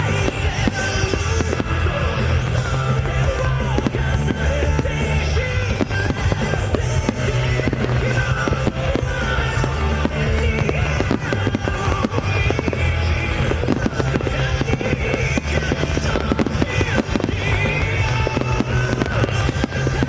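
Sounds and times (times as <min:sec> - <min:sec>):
fireworks bursting and crackling: 0:00.0 - 0:20.0
loud music with deep bass: 0:00.0 - 0:20.0.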